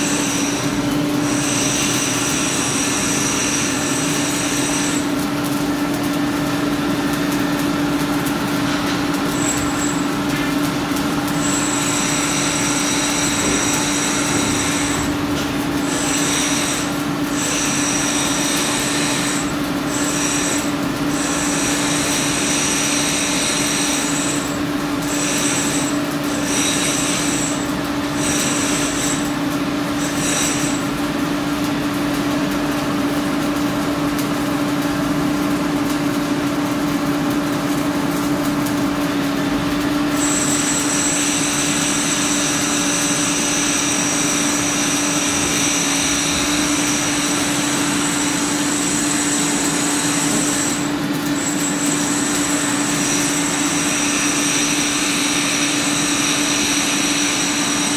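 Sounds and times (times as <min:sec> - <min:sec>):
welding arc sizzling: 0:00.0 - 0:57.9.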